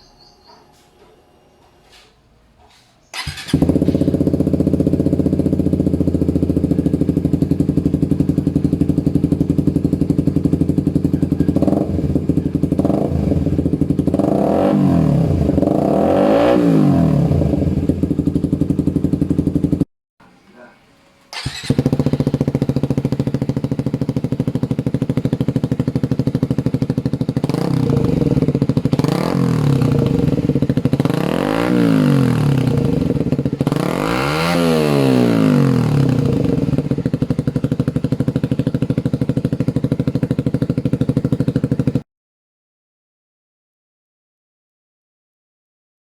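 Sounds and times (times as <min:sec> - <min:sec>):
motorcycle engine idling: 0:03.0 - 0:19.8, 0:21.3 - 0:42.0.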